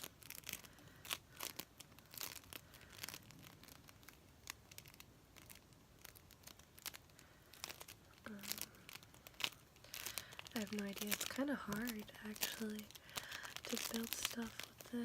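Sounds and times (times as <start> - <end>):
foam bead compound crackling and popping: 0.0 - 15.0.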